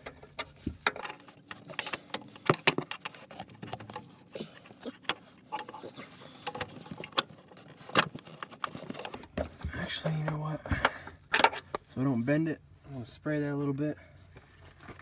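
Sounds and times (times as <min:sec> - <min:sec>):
gloved hands handling noise: 0:00.0 - 0:12.4.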